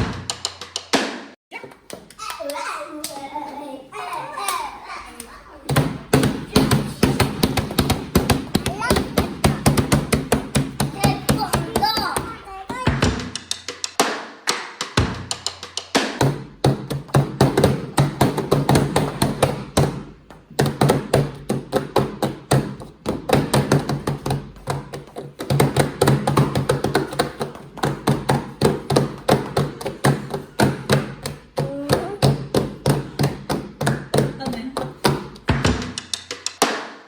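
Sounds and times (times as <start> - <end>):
rapid rhythmic tapping: 4.4 - 37.0.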